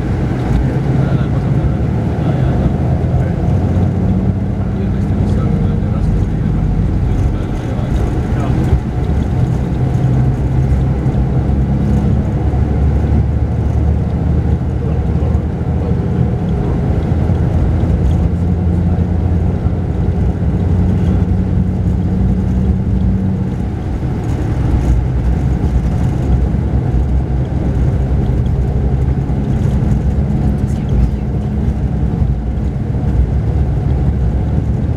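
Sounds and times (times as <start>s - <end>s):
bus engine drone: 0.0s - 34.9s
road rumble: 0.0s - 34.9s.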